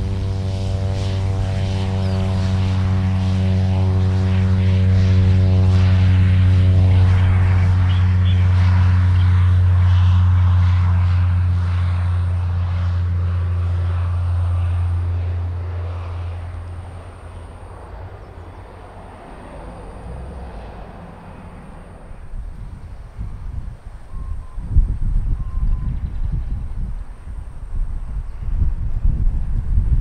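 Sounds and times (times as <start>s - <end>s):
engine whine: 0.0s - 30.0s
propeller plane drone: 0.0s - 30.0s.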